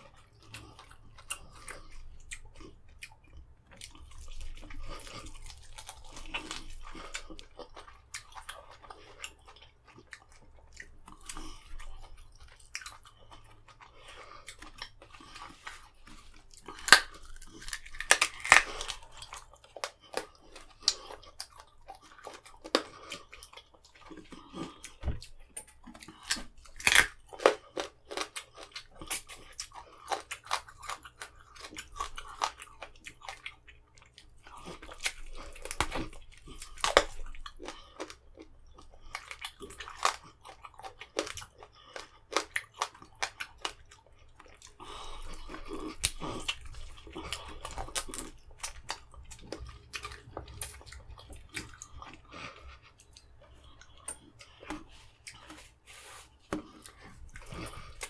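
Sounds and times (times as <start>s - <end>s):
chewing on chicken bone: 0.0s - 55.8s, 56.5s - 58.0s.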